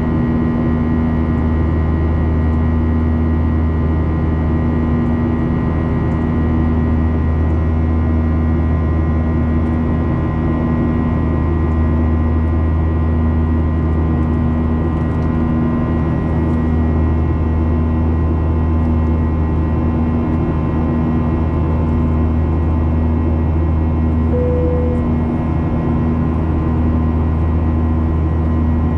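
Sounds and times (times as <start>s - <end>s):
jet airliner drone in flight: 0.0s - 28.9s.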